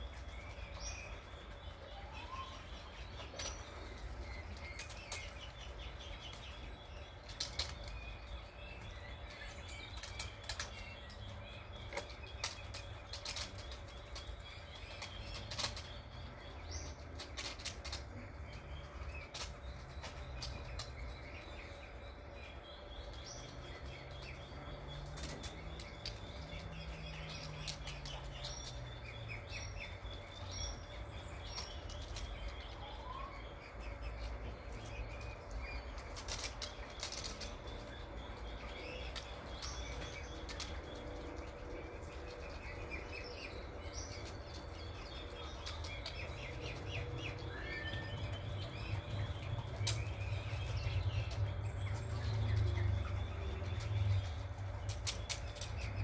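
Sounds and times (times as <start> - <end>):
faint high bird chirps: 0.0 - 17.5, 18.2 - 54.4.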